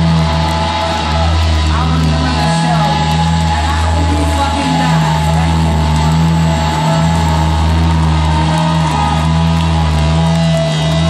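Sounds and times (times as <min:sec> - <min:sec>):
held higher tones: 0:00.0 - 0:11.0
rock band low drone: 0:00.0 - 0:11.0.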